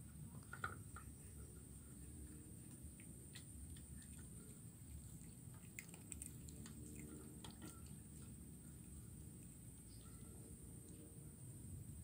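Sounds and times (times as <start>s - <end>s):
quiet background hiss: 0.0s - 12.0s
kitten chewing bones: 0.3s - 11.2s.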